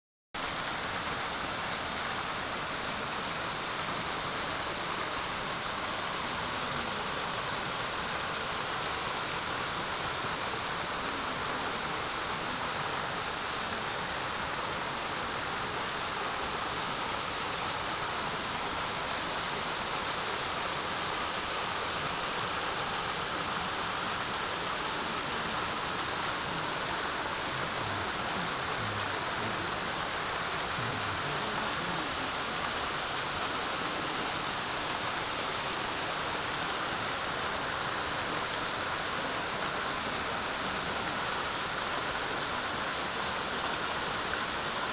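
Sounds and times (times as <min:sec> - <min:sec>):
waterfall splashing into pool: 0:00.4 - 0:44.9.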